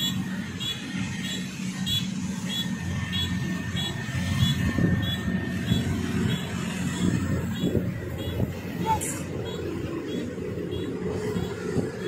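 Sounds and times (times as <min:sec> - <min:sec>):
distant combine harvester rumble: 0:00.0 - 0:12.0.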